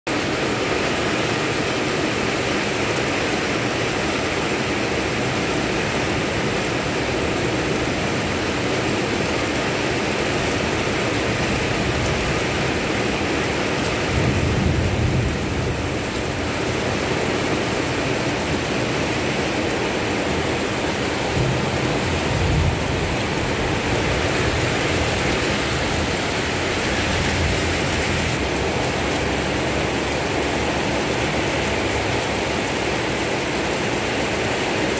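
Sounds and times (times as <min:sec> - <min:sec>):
rain on concrete road: 0:00.1 - 0:34.9.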